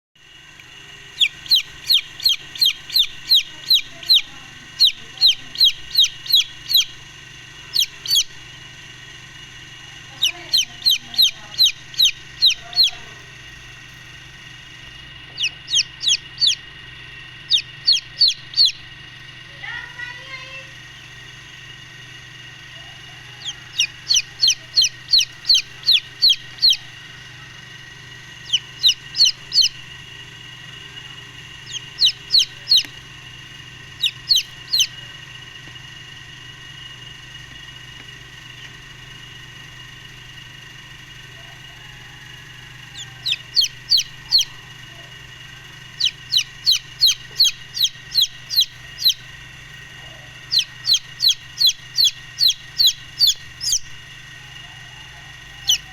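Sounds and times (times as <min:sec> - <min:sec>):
baby chicks peeping: 0:00.2 - 0:55.9
steady background hum: 0:00.2 - 0:55.9.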